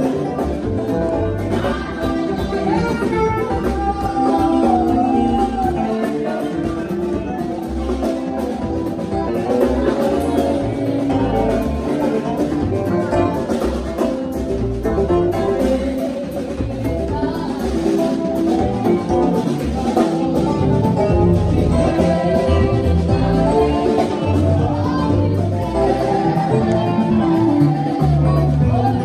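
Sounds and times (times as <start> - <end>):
gospel band playing: 0.0 - 29.0.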